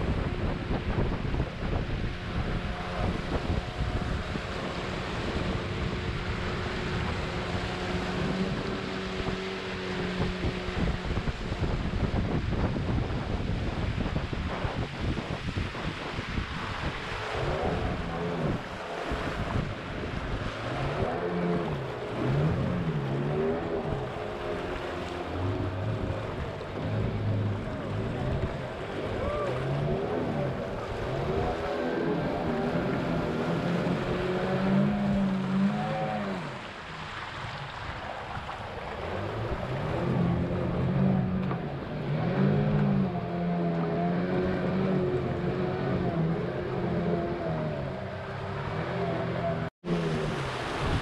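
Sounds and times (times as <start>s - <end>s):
outboard motor running: 0.0s - 51.0s
water rushing: 0.0s - 51.0s
wind buffeting microphone: 0.0s - 51.0s.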